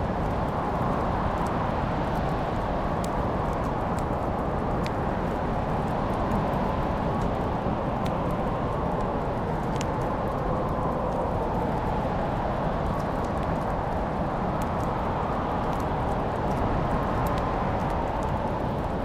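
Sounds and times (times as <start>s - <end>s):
fire crackling and popping: 0.0s - 19.0s
low rush of fire: 0.0s - 19.0s.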